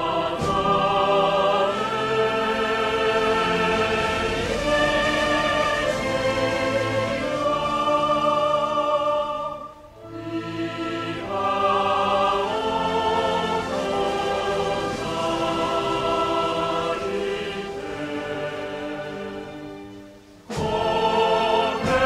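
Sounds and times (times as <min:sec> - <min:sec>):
choir holding long notes: 0:00.0 - 0:22.0
orchestral music: 0:00.0 - 0:22.0.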